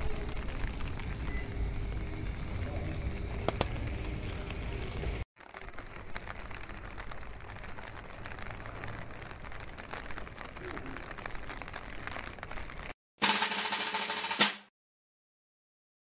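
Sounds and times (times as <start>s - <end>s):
low city rumble: 0.0s - 12.9s
rain falling on a wet street: 0.0s - 13.0s.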